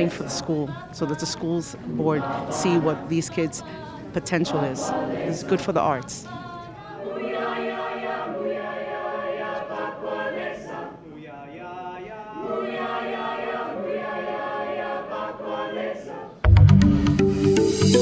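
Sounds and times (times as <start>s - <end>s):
choir singing a cappella: 0.0s - 16.5s.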